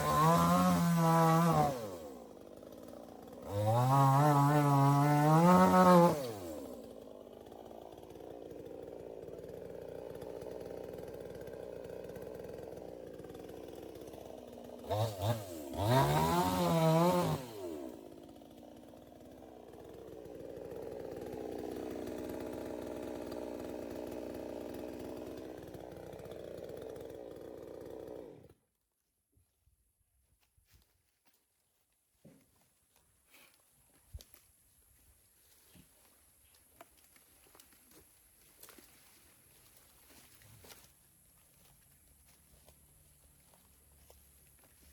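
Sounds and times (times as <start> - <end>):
chainsaw engine idling and revving: 0.0 - 28.7, 36.4 - 44.9.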